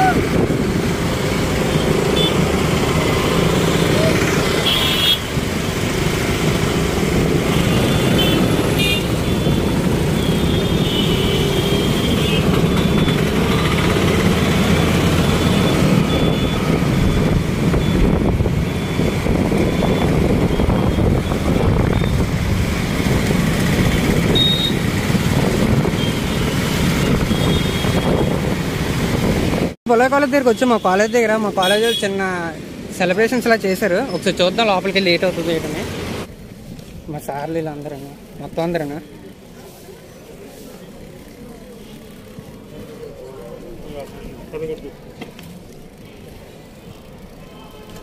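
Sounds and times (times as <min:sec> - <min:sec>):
motorcycle and scooter engines: 0:00.0 - 0:48.0
road noise: 0:00.0 - 0:48.0.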